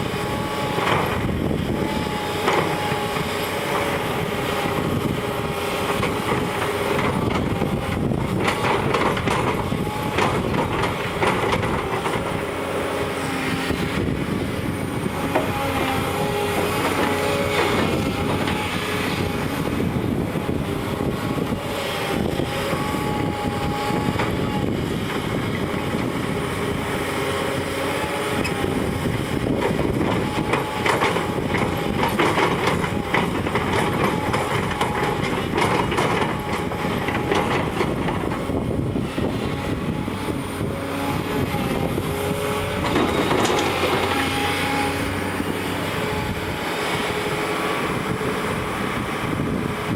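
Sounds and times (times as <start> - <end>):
heavy machine engine running: 0.0 - 49.9.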